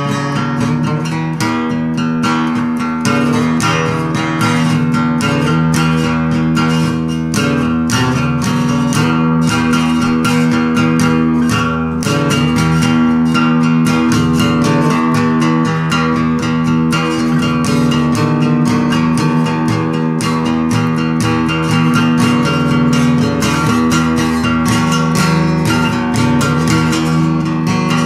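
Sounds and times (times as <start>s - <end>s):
guitar strummed: 0.0s - 28.0s.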